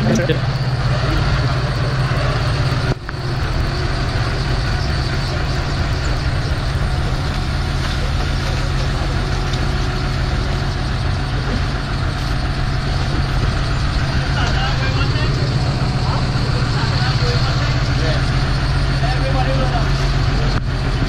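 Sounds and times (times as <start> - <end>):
forklift engine running under load: 0.0 - 21.0.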